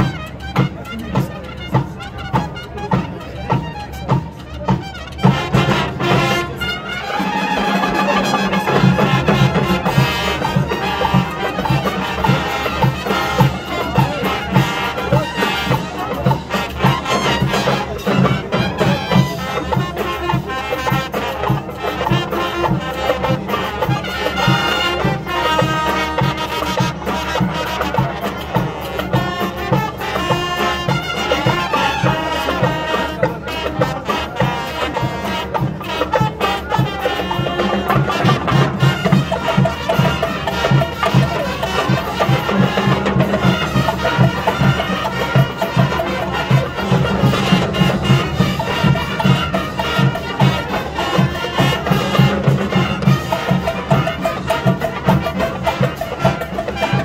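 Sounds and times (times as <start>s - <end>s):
steady drum beat: 0.0s - 57.0s
trumpets and trombones: 0.0s - 57.0s.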